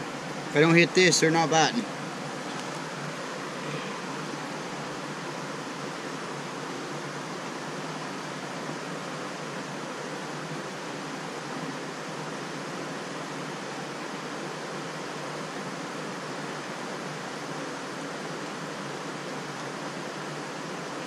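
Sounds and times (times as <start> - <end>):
river water flowing over rocks: 0.0 - 21.0.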